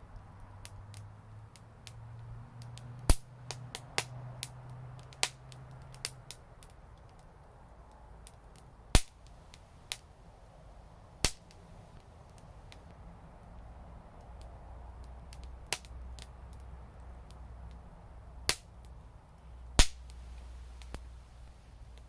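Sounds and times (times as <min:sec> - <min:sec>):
wood fire crackling and popping: 0:00.1 - 0:22.0.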